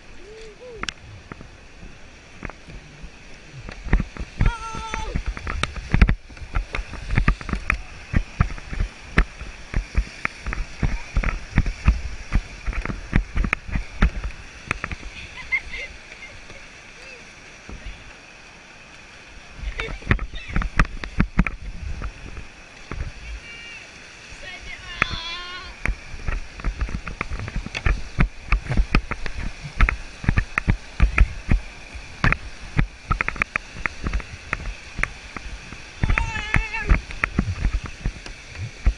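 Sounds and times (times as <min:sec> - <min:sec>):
rushing whitewater: 0:00.0 - 0:38.9
paddle splashes and knocks: 0:00.7 - 0:38.9.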